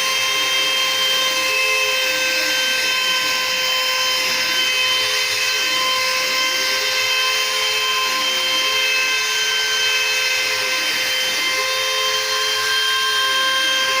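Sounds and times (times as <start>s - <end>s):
cnc router high-pitched whine: 0.0s - 14.0s
low gliding machine tone: 0.0s - 14.0s.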